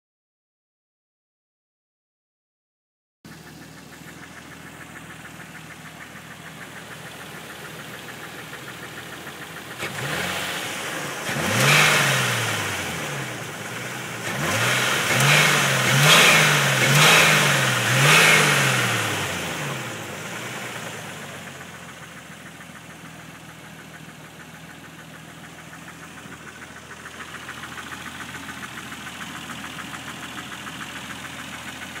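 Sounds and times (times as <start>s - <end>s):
car engine revving and idling: 3.3s - 32.0s.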